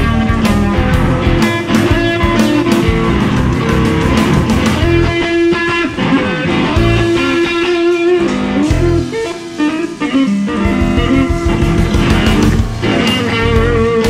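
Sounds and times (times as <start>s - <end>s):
low bass notes: 0.0s - 9.6s, 10.2s - 14.0s
electric guitar melody: 0.0s - 14.0s.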